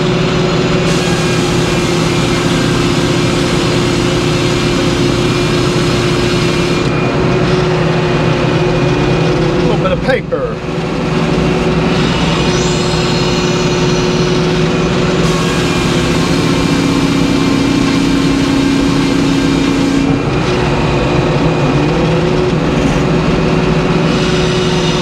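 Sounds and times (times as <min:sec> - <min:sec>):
sawmill machine hum: 0:00.0 - 0:25.0
circular saw cutting log: 0:00.7 - 0:07.8, 0:11.8 - 0:25.0.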